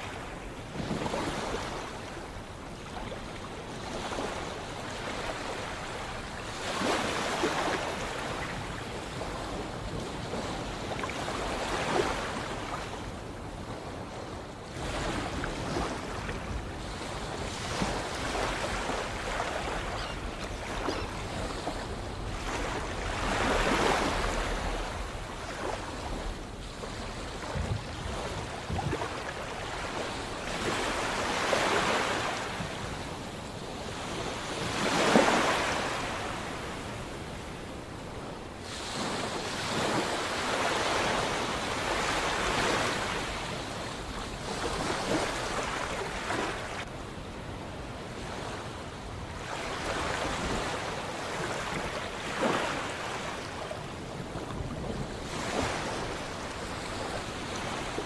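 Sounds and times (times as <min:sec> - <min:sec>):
sea waves breaking: 0:03.9 - 0:13.2, 0:14.7 - 0:46.9, 0:49.4 - 0:58.0.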